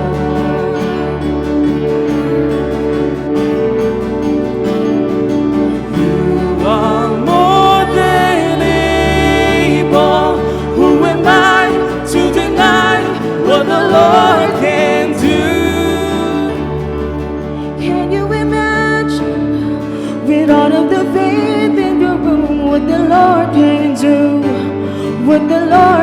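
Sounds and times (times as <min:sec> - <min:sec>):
instrumental worship band music: 0:00.0 - 0:26.0.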